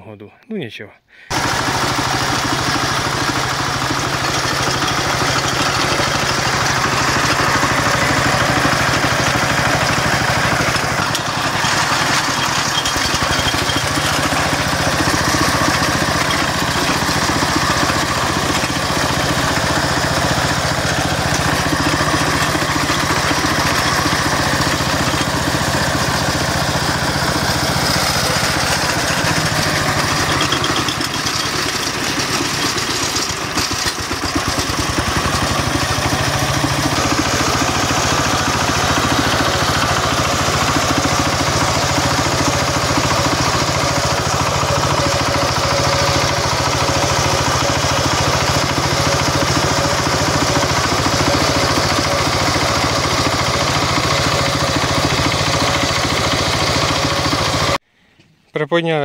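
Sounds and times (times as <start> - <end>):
diesel engine running under load: 1.3 - 57.8
vibrating potato digger: 1.3 - 57.8.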